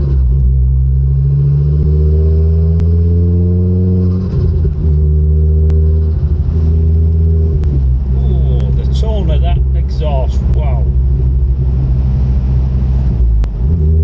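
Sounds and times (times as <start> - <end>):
car engine with exhaust driving: 0.0 - 14.0.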